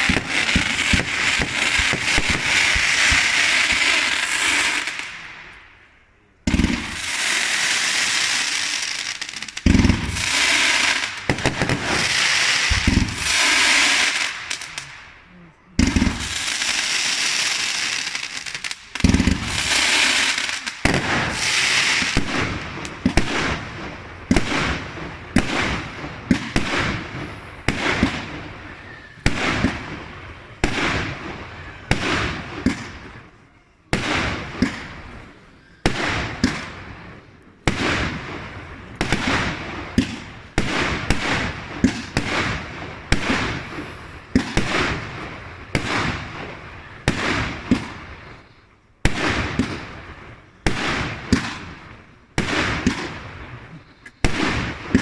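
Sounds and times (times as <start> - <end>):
fireworks hiss: 0.0 - 5.6, 6.5 - 15.2, 15.8 - 33.1, 37.6 - 55.0
fireworks bangs: 0.0 - 55.0.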